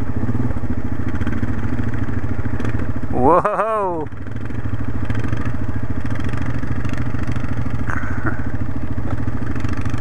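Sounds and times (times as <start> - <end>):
quad engine running: 0.0 - 10.0.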